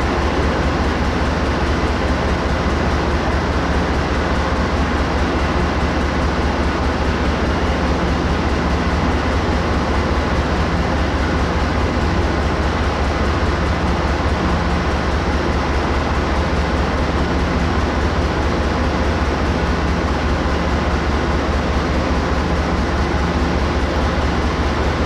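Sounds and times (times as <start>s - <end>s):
diesel locomotive rumble: 0.0s - 25.0s.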